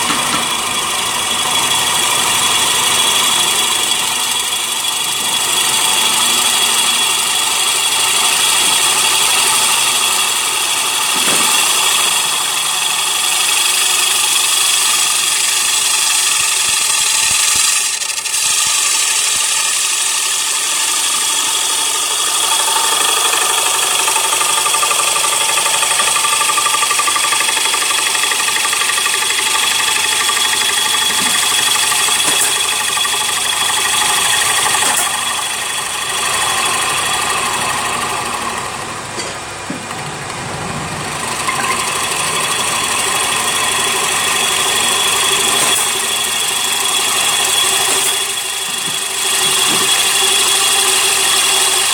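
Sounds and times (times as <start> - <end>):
wood lathe whining: 0.0 - 51.9.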